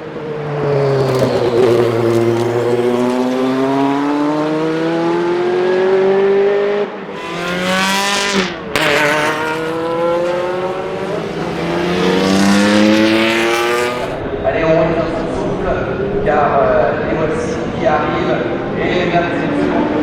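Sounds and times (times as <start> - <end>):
race car engines at full throttle: 0.0 - 20.0.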